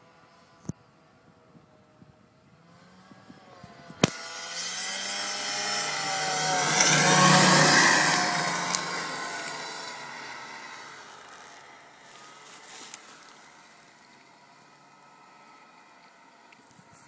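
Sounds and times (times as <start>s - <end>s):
snowmobile engine approaching: 0.0s - 17.0s.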